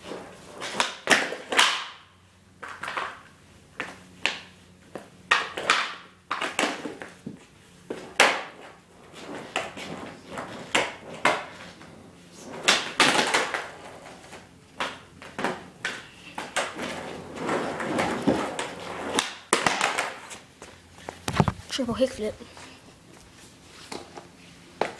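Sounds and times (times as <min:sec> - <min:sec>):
skateboard clacking on concrete: 0:00.0 - 0:20.5.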